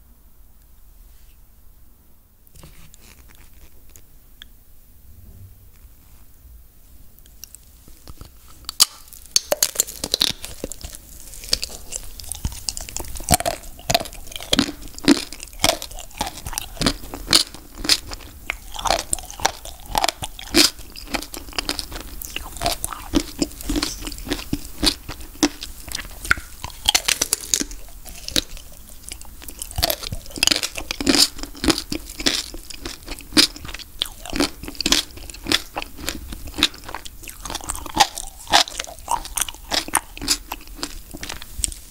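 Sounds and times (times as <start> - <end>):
chewing: 7.2 - 41.9
chocolate shell crunching: 7.4 - 41.8.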